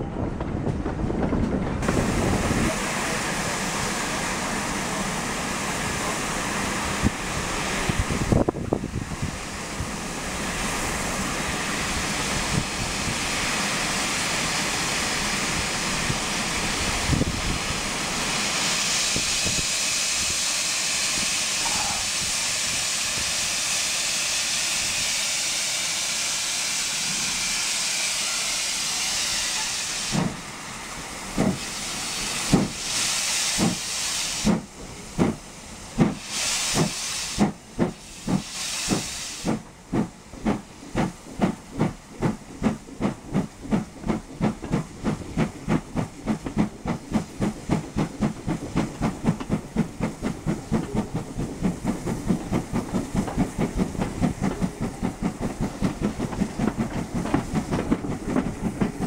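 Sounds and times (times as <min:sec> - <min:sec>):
steam locomotive exhaust beats: 0:00.0 - 0:59.0
steam hissing: 0:01.8 - 0:59.0.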